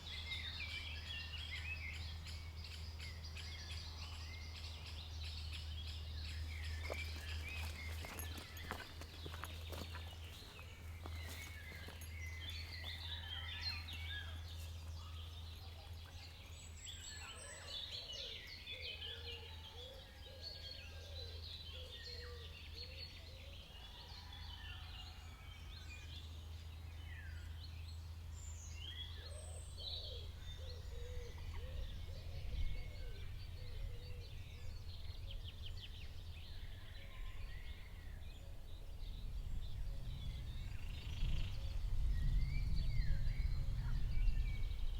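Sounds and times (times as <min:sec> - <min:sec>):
songbirds singing and calling: 0:00.0 - 0:44.9.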